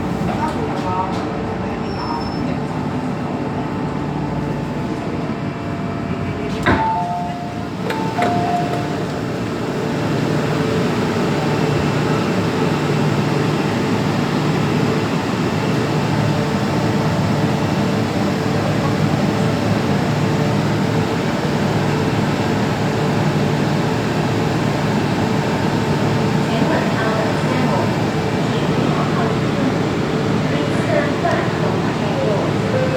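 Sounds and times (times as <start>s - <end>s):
electric train rumbling: 0.0s - 32.9s.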